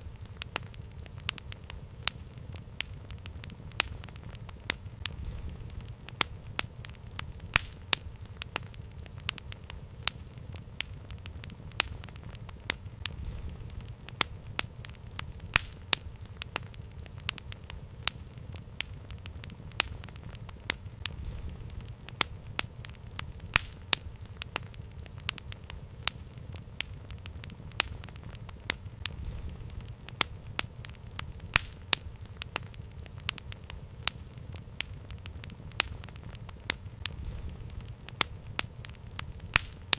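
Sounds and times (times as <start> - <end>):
campfire wood crackling and popping: 0.0 - 39.9.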